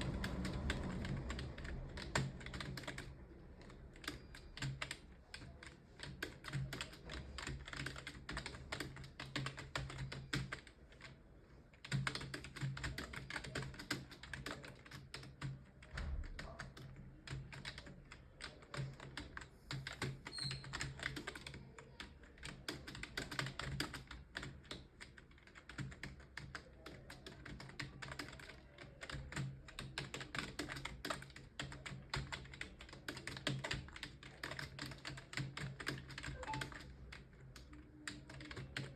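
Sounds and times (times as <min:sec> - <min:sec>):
computer keyboard typing: 0:00.0 - 0:38.9.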